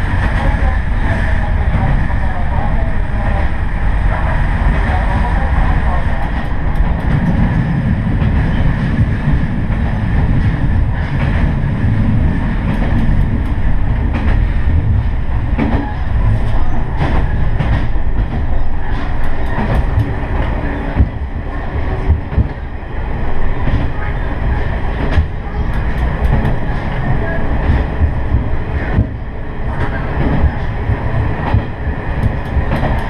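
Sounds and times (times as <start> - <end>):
railcar engine rumble: 0.0 - 33.0.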